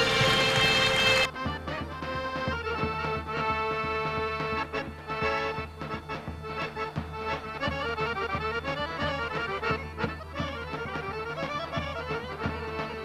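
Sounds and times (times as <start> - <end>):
folk dance music with drone: 0.0 - 13.0.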